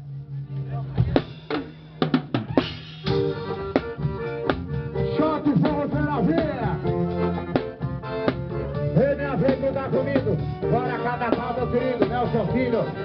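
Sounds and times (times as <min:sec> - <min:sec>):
folk dance music with accordion: 0:02.5 - 0:13.0.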